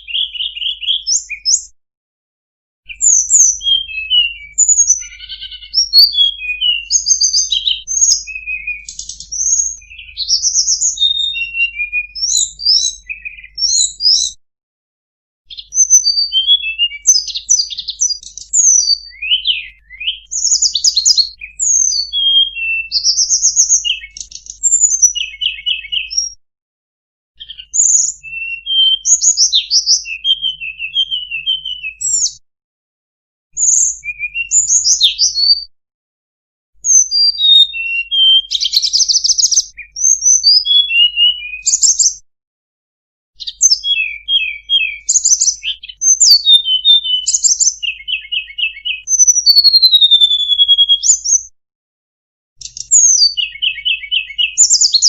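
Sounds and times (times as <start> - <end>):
songbird singing: 0.0 - 1.8, 2.9 - 14.4, 15.5 - 26.4, 27.4 - 32.4, 33.6 - 35.7, 36.8 - 42.2, 43.4 - 51.5, 52.6 - 55.0.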